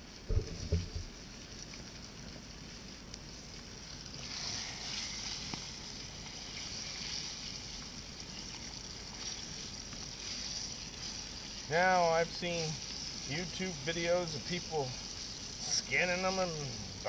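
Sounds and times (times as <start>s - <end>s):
faint crackles: 0.0s - 17.0s
fish frying in a skillet: 0.0s - 17.0s.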